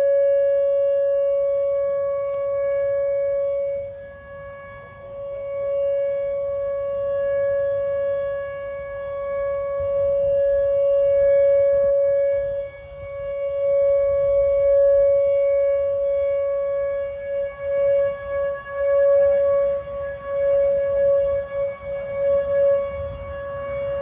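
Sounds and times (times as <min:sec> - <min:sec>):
warning siren steady tone: 0:00.0 - 0:24.0.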